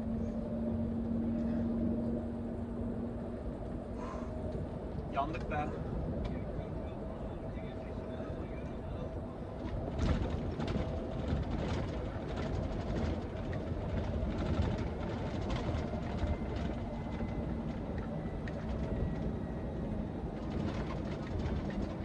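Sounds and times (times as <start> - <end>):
lorry engine rumble: 0.0 - 22.0.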